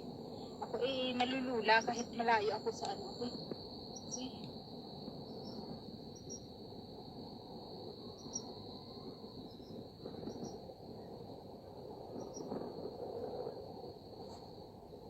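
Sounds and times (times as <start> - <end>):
insects trilling drone: 0.0 - 15.0
low background rumble: 0.0 - 15.0.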